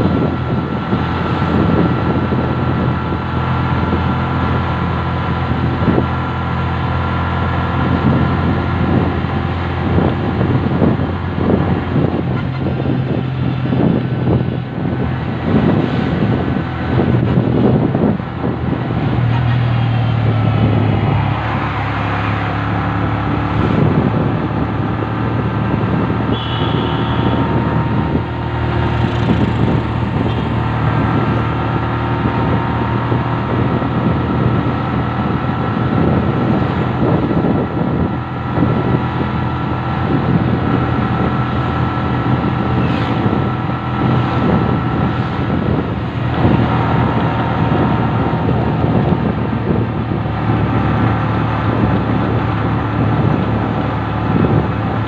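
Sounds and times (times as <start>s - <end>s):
road noise: 0.0s - 55.0s
vehicle engine running: 0.0s - 55.0s
wind noise on microphone: 0.0s - 55.0s.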